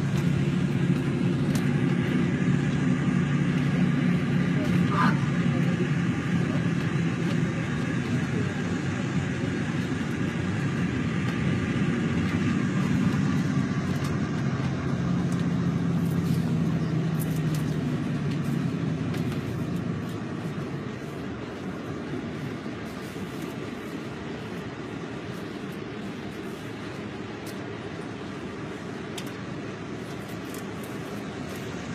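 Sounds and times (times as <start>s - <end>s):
bus engine drone: 0.0s - 31.9s
road noise: 0.0s - 31.9s.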